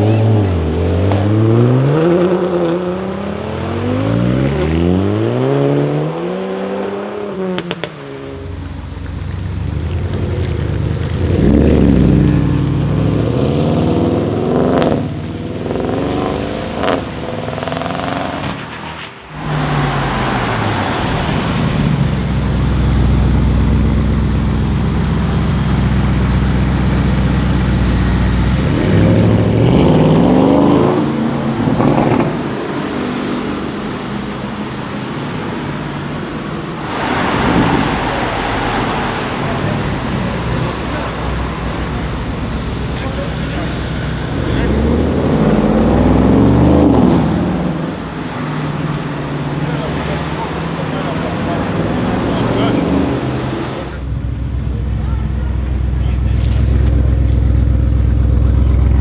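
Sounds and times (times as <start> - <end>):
car engine revving: 0.0 - 59.0
exhaust cracks: 7.5 - 32.6, 36.2 - 59.0.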